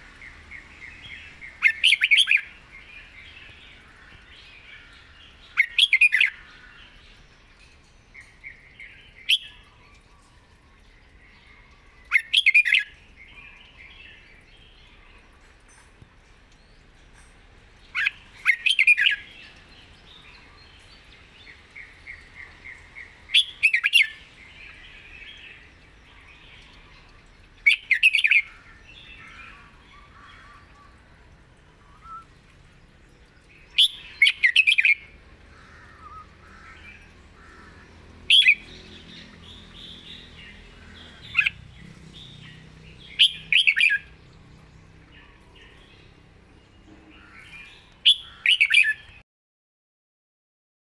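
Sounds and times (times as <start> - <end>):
soft bird chirping: 0.0 - 49.2.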